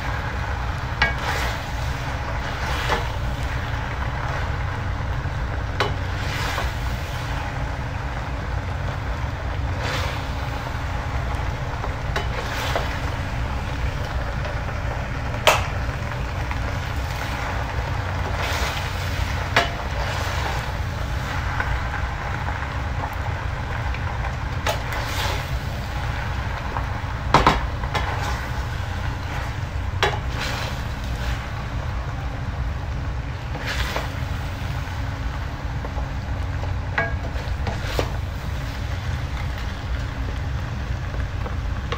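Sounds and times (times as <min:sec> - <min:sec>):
spoons stirring pasta in a pan: 0:00.0 - 0:32.0, 0:32.6 - 0:41.9
steady low rumble: 0:00.0 - 0:41.9.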